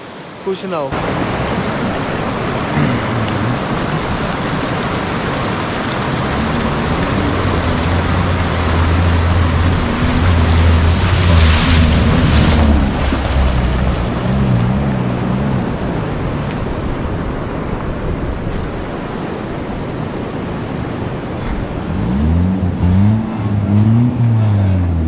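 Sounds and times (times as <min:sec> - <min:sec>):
water rushing and splashing: 0:00.0 - 0:25.0.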